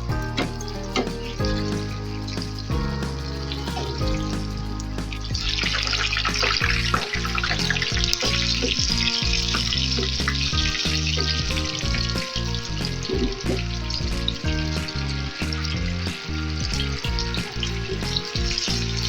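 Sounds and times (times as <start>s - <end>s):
background music: 0.0s - 19.0s
food sizzling in hot oil: 0.0s - 19.0s.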